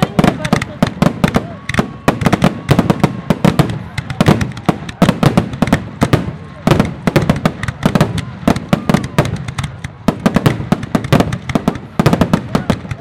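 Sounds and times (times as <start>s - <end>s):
fireworks bursting with loud bangs: 0.0s - 13.0s.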